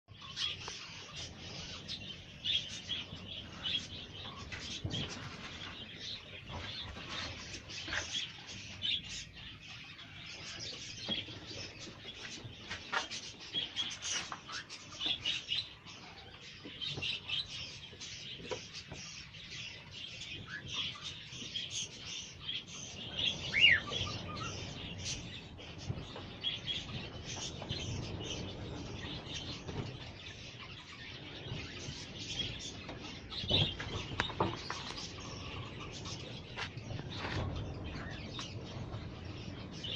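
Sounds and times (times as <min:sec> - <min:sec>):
cockatiels chirping and calling: 0:00.1 - 0:39.9.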